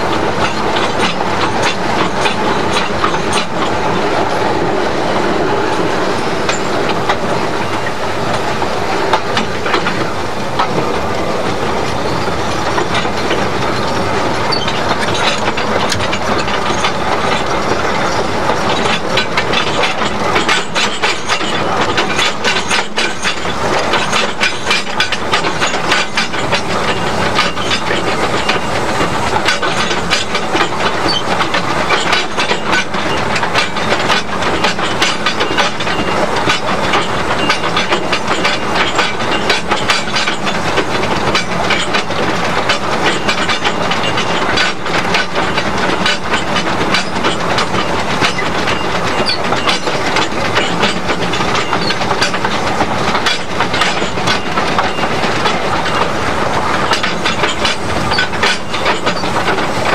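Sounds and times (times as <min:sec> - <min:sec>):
steam locomotive wheels clattering: 0:00.0 - 0:59.9.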